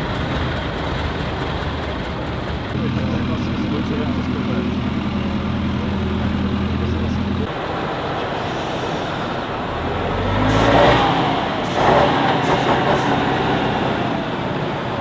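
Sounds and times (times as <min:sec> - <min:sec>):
truck driving past: 0:00.0 - 0:15.0
truck engine running steadily: 0:00.0 - 0:15.0.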